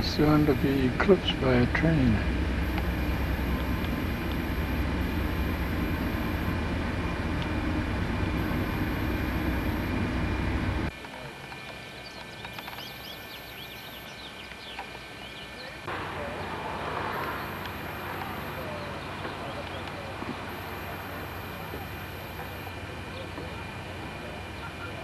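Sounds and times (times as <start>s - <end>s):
diesel locomotive engine rumble: 0.0s - 11.0s, 11.8s - 25.0s.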